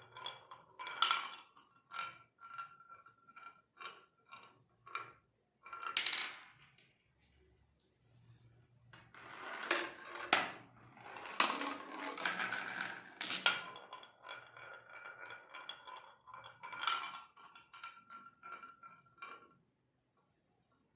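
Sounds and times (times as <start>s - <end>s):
marbles rolling on wooden run: 0.0s - 6.8s, 9.0s - 19.6s.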